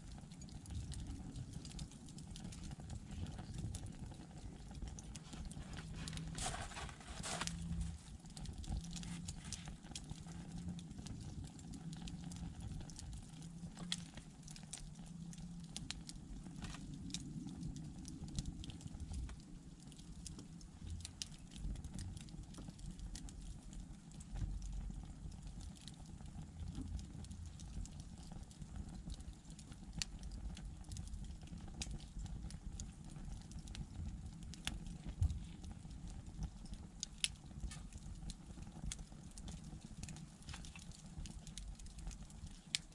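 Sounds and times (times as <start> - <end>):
logs burning with crackles: 0.0 - 42.9
low fire rumble: 0.0 - 42.9.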